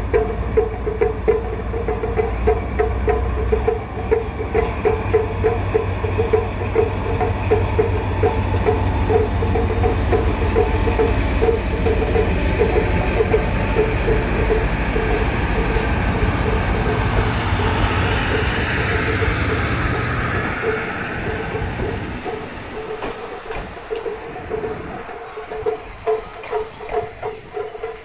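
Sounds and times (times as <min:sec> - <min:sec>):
locomotive engine drone: 0:00.0 - 0:28.0
wheels on rails: 0:00.0 - 0:28.0.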